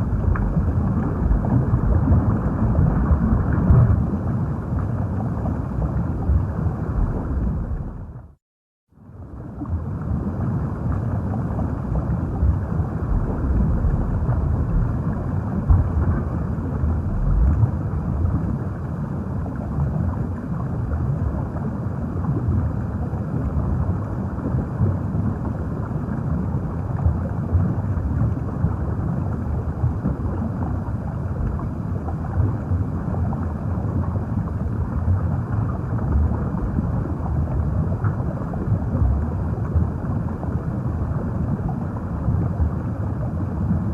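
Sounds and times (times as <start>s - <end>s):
muffled underwater rumble: 0.0s - 43.9s.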